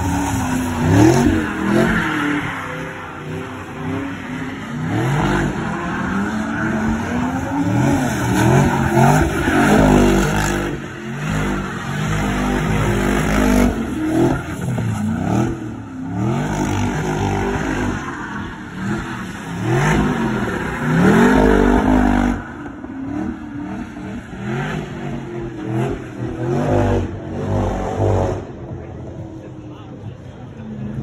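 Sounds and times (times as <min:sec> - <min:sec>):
car engine revving hard: 0:00.0 - 0:28.8.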